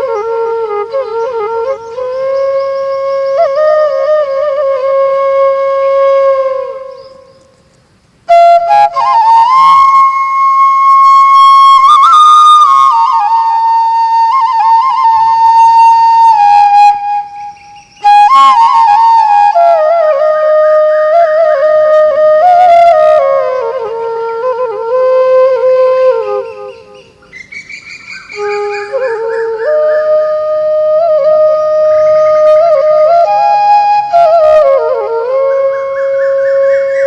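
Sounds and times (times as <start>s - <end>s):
flute melody with trills: 0.0s - 7.4s, 8.3s - 37.0s.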